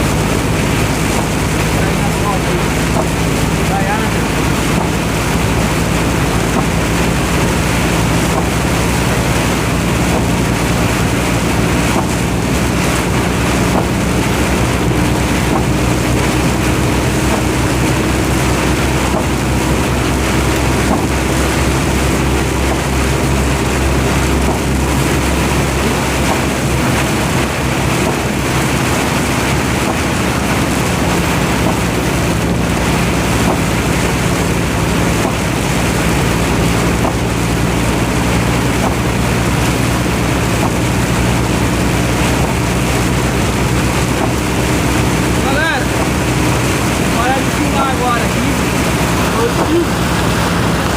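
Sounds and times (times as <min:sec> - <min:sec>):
road and wind noise: 0:00.0 - 0:50.9
vehicle engine running: 0:00.0 - 0:50.9.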